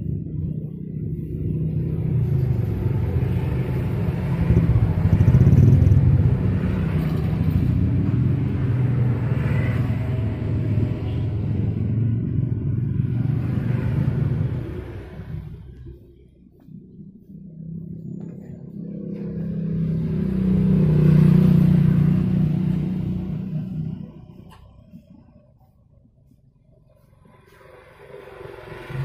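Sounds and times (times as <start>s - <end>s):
engine rumbling: 0.0s - 29.0s.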